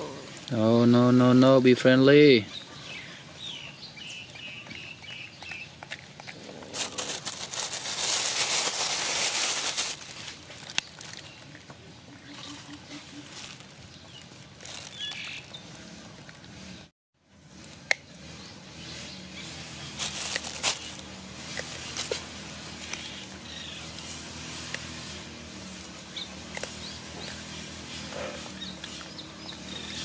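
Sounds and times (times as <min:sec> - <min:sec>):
outdoor background hum: 0:00.0 - 0:30.0
animals chewing and clicking: 0:02.5 - 0:16.8, 0:17.4 - 0:30.0.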